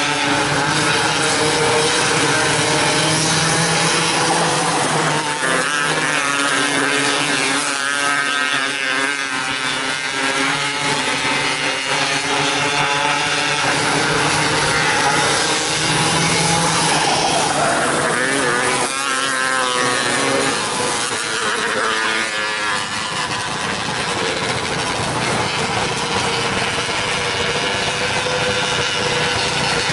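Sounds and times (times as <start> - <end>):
car accelerating past: 0.0 - 29.9
racing car engines: 0.0 - 29.9.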